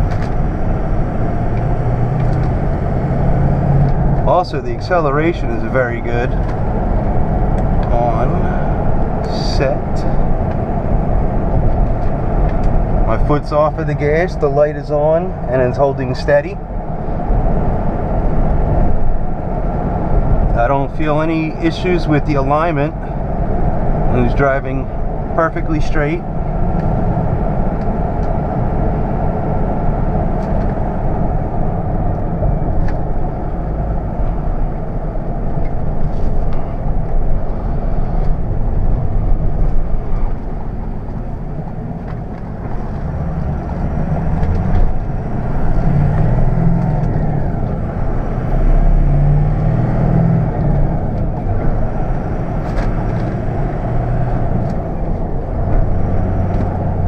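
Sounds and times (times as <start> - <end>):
diesel engine drone: 0.0 - 57.0
road and tyre noise: 0.0 - 57.0.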